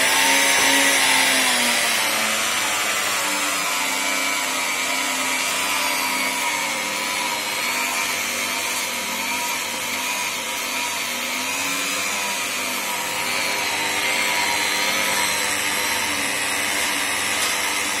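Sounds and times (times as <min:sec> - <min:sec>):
electric mixer motor whine: 0:00.0 - 0:18.0.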